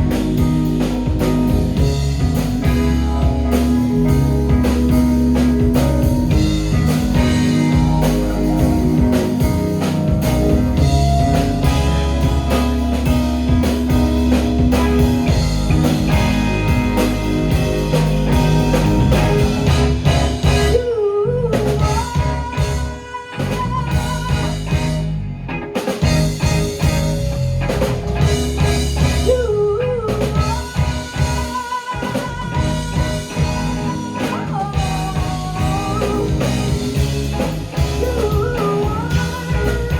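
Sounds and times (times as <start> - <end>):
drums: 0.0 - 39.9
guitar: 0.0 - 39.9
live rock band: 0.0 - 39.9.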